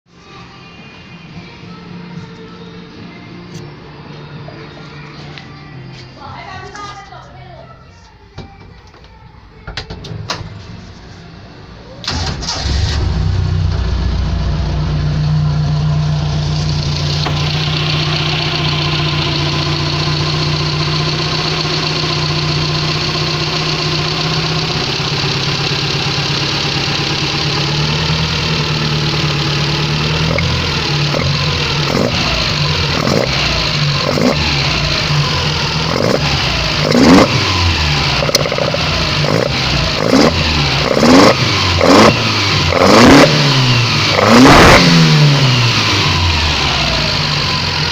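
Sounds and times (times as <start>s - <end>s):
car engine starting and idling: 9.5s - 47.9s.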